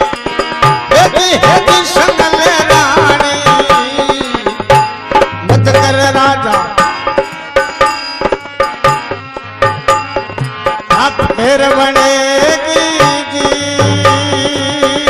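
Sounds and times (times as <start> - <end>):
harmonium melody: 0.0 - 15.0.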